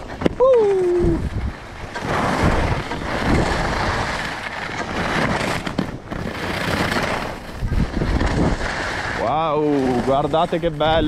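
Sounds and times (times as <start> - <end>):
skis hissing over snow: 0.0 - 11.0
wind rushing over microphone: 0.0 - 11.0.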